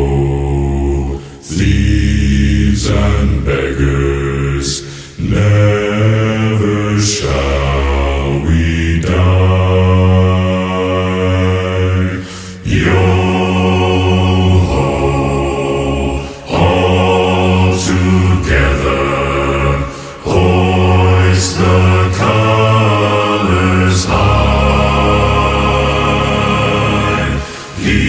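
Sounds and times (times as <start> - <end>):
choral chanting vocals: 0.0 - 28.0.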